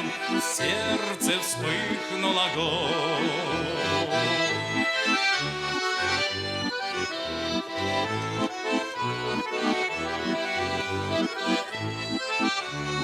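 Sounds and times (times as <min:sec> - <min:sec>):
button accordion playing folk tune: 0:00.0 - 0:13.0.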